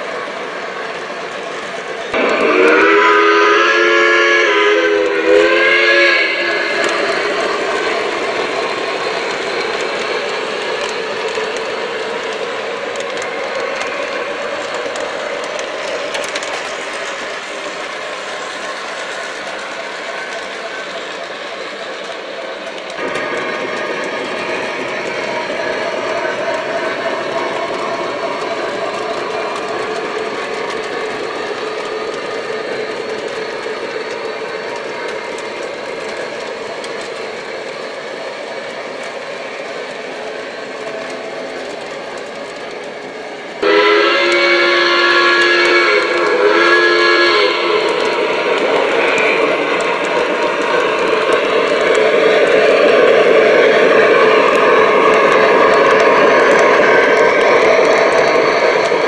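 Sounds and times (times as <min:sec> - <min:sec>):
model train wheels rolling: 0:00.0 - 0:59.0
light clicks of track: 0:06.2 - 0:46.5, 0:47.2 - 0:59.0.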